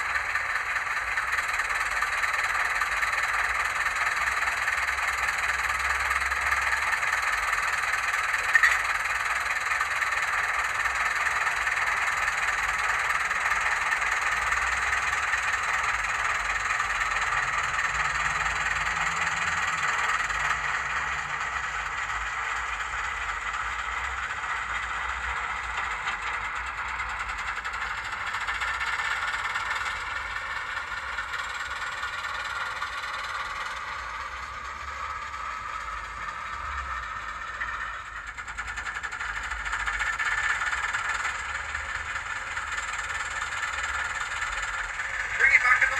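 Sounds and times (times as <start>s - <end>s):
diesel engine sound through small speaker: 0.0s - 45.9s.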